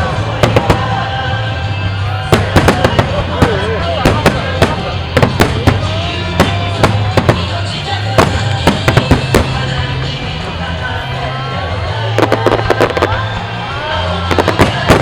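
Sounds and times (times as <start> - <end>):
fireworks bursting: 0.0 - 15.0
music with bass line: 0.0 - 15.0.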